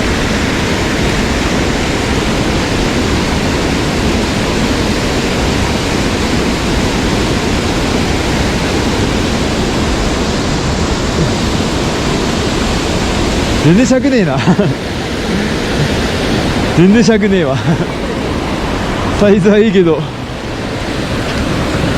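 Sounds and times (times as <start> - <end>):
fast-flowing stream water: 0.0 - 21.9.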